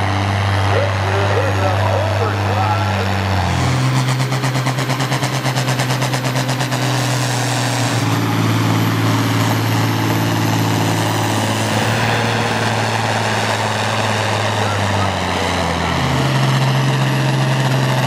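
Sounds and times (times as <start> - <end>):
tractor diesel engines at full throttle: 0.0 - 18.0.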